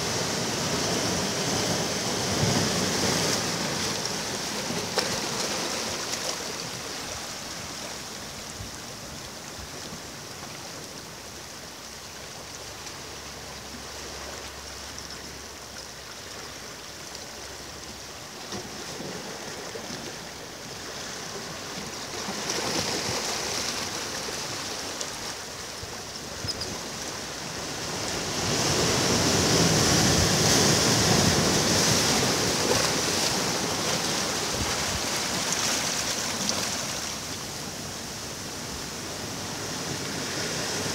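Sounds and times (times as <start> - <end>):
ocean surf on beach: 0.0 - 40.9.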